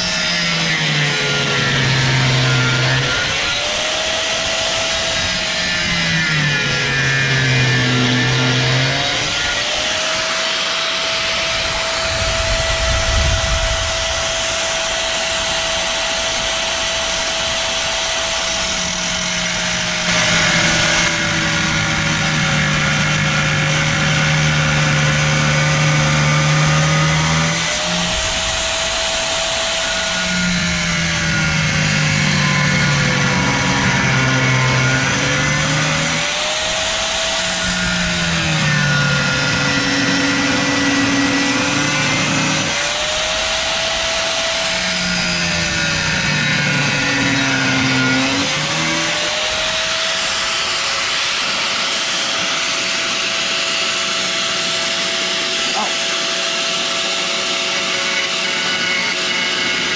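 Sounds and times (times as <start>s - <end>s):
abrasive wheel grinding metal: 0.0s - 59.9s
cut-off wheel motor whine: 0.0s - 59.9s.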